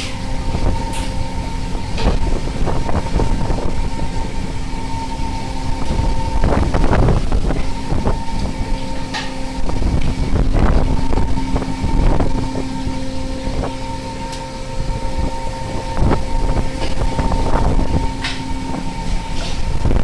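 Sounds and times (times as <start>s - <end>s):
boat engine humming: 0.0s - 20.0s
wind buffeting microphone: 0.0s - 20.0s.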